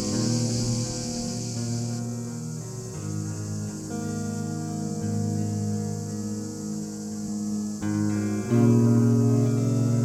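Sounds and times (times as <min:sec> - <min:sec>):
guitar chords: 0:00.0 - 0:10.0.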